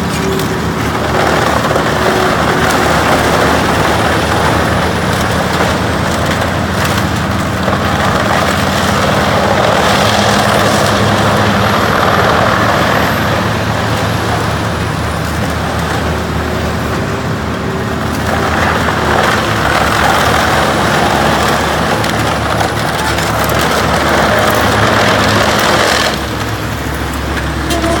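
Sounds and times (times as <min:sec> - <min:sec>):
wood grinding: 0:00.0 - 0:28.0.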